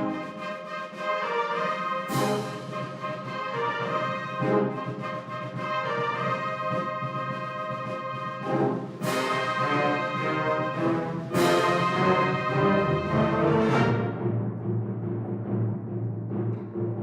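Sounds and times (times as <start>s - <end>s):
wind band playing: 0.0s - 14.7s.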